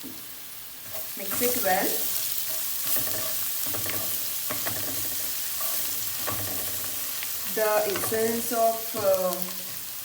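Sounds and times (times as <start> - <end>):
masala sizzling in hot oil: 0.0 - 10.0
spatula scraping a pan: 0.8 - 9.1.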